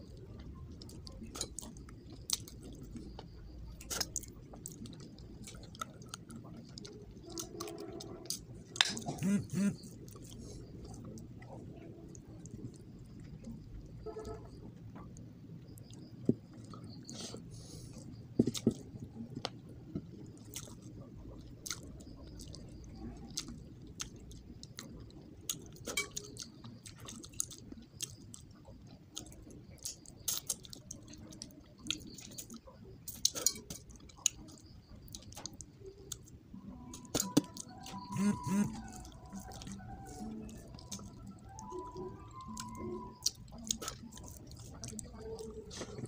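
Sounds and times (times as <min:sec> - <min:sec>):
person chewing with mouth sounds: 0:00.0 - 0:13.6, 0:15.8 - 0:46.0
low steady background hum: 0:00.0 - 0:46.0.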